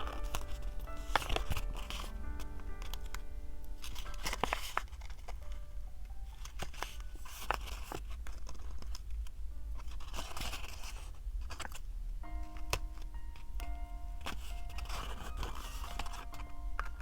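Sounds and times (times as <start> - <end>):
paper rustling and peeling: 0.0 - 11.9, 14.2 - 17.0
faint background music: 0.0 - 17.0.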